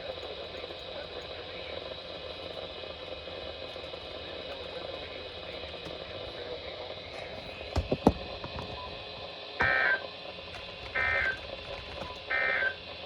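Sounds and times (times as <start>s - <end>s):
radio static hiss: 0.0s - 7.7s, 8.5s - 13.0s.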